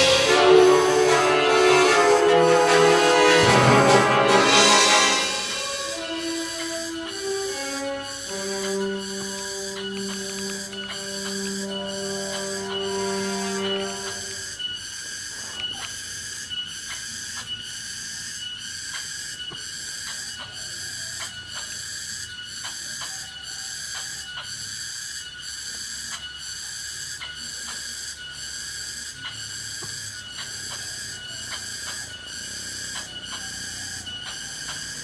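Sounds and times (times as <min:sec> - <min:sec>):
insects buzzing drone: 0:00.0 - 0:35.0.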